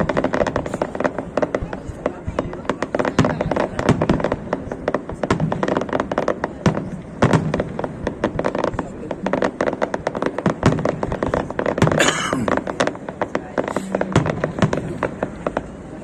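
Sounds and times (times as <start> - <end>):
fireworks bangs and crackles: 0.0 - 16.0
fireworks hissing burst: 0.0 - 16.0.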